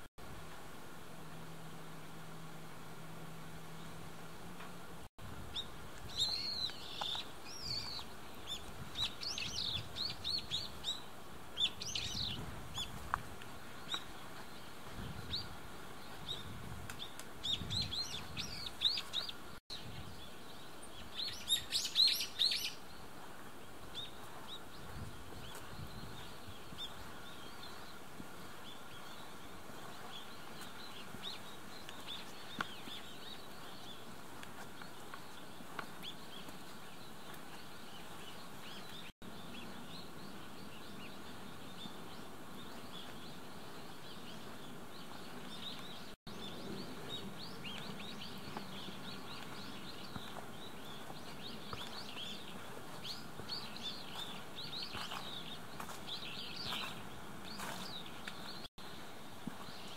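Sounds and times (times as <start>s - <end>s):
outdoor background hiss: 0.0s - 59.9s
small birds chirping: 1.3s - 59.9s.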